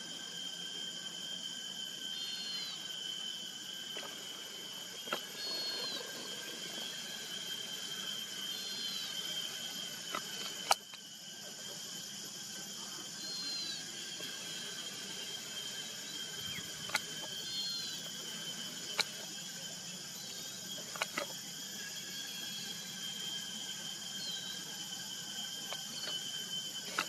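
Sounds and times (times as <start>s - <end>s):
insects trilling: 0.0s - 27.0s
short insect chirp: 0.0s - 27.0s.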